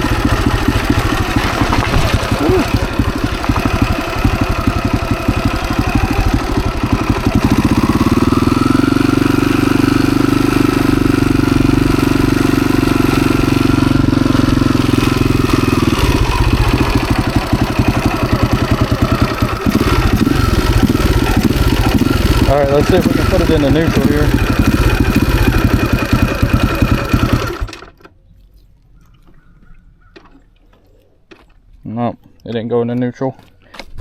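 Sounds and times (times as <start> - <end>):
motorcycle engine revving: 0.0 - 28.1.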